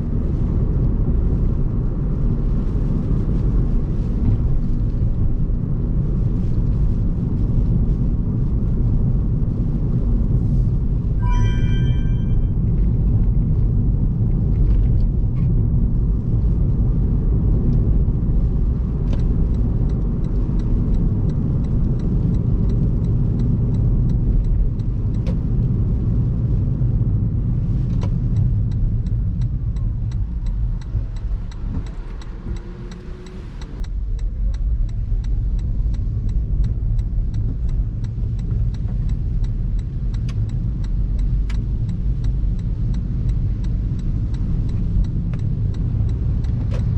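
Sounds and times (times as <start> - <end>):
tyres rumbling on wet road: 0.0 - 11.2, 12.5 - 46.9.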